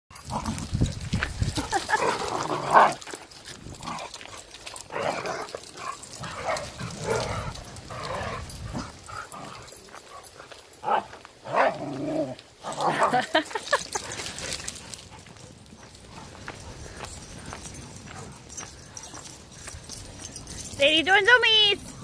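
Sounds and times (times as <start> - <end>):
dogs play-fighting vocal noises: 0.1 - 20.7.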